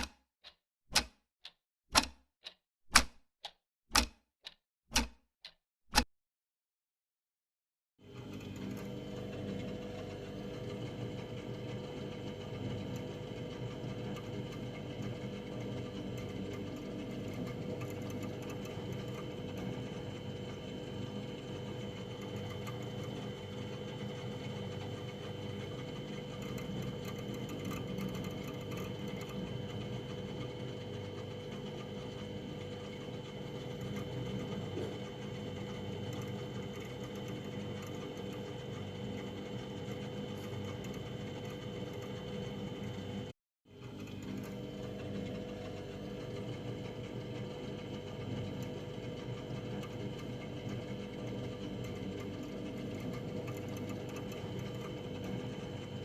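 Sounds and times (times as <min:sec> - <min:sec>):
freezer humming: 0:08.1 - 0:56.0.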